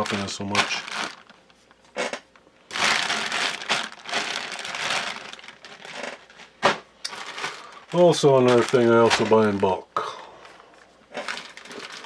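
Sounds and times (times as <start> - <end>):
plastic bag crinkling: 0.0 - 1.8, 2.7 - 9.8, 11.1 - 12.0.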